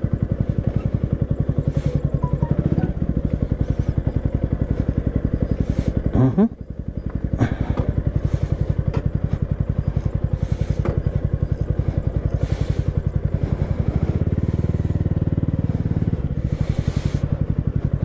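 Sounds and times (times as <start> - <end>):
deep rumble: 0.0 - 18.0
motorcycle engine running: 0.0 - 18.0.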